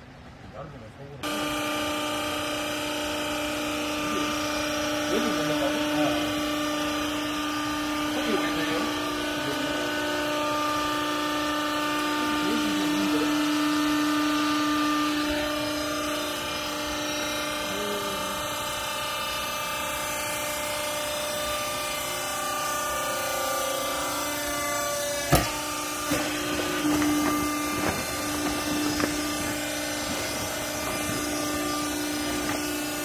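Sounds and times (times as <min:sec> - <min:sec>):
hydraulic power pack humming: 0:00.0 - 0:33.0.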